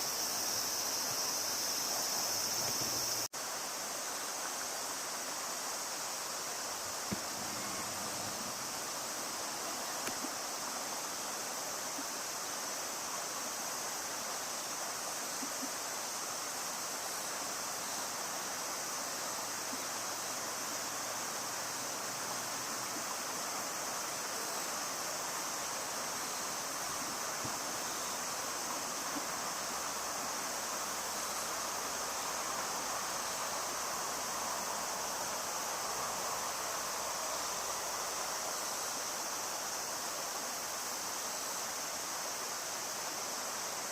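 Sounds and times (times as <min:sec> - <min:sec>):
high-pitched hiss: 0:00.0 - 0:43.9
river water rushing: 0:00.0 - 0:43.9.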